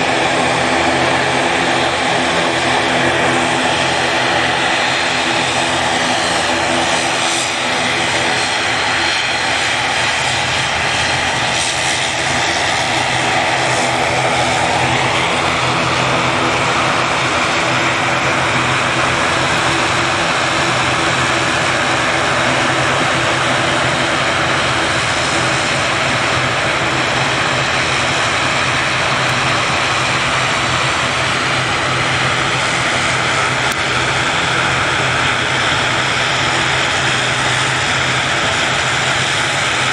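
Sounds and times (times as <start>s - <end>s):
high turbine whine: 0.0s - 39.9s
propeller drone: 0.0s - 39.9s.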